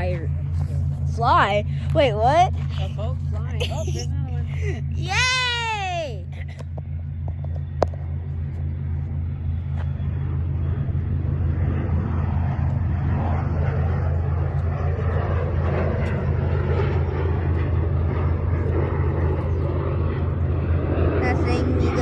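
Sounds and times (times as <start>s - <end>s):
jet airliner engines: 0.0s - 22.0s.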